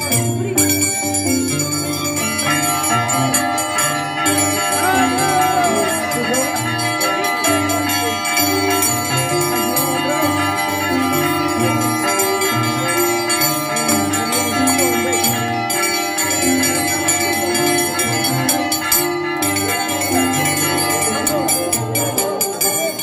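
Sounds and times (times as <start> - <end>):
festive music: 0.0 - 23.0
metallic bell-like ringing: 0.0 - 23.0.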